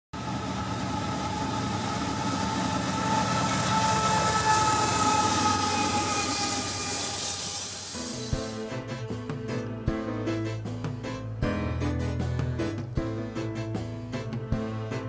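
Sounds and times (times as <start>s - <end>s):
train rattling rumble: 0.2s - 15.0s.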